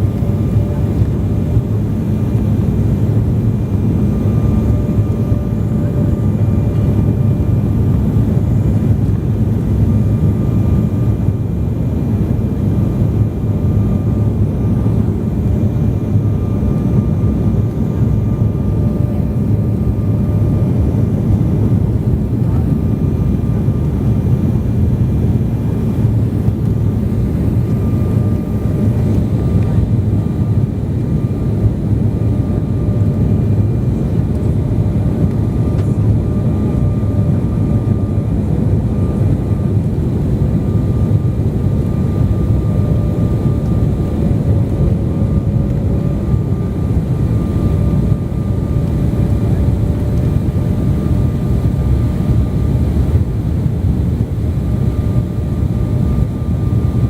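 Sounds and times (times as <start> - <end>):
airliner engine and airflow rumble: 0.0 - 57.0.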